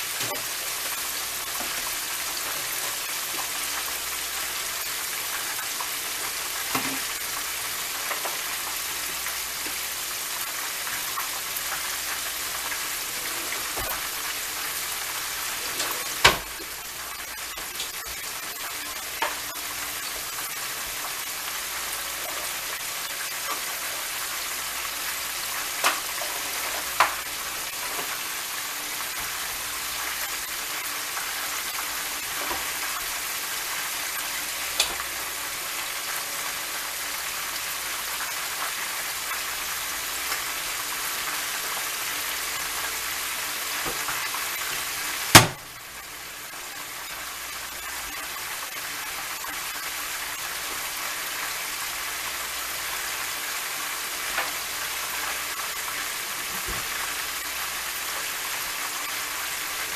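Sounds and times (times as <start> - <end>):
oil sizzling and popping: 0.0 - 59.9.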